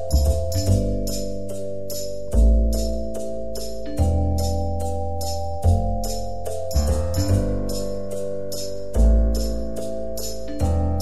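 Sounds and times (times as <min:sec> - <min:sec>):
high percussion ticks: 0:00.0 - 0:11.0
instrumental music with beat: 0:00.0 - 0:11.0.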